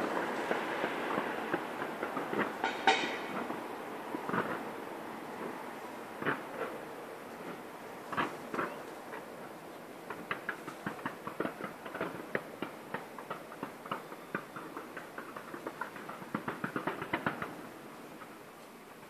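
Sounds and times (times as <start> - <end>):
distant fireworks crackling: 0.0 - 19.0.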